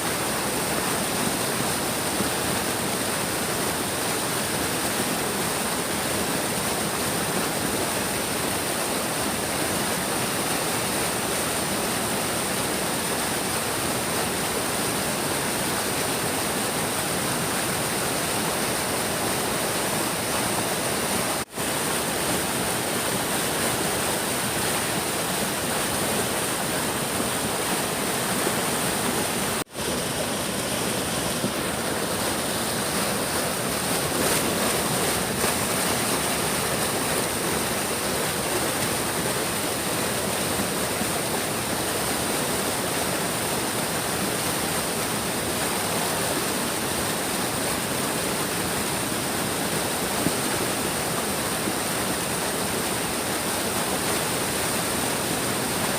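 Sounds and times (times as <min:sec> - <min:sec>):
stream rushing over its bed: 0:00.0 - 0:55.9.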